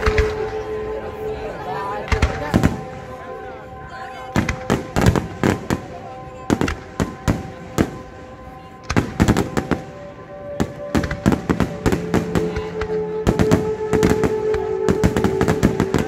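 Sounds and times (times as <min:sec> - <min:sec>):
fireworks bangs and crackles: 0:00.0 - 0:01.0, 0:02.0 - 0:03.5, 0:04.2 - 0:16.0.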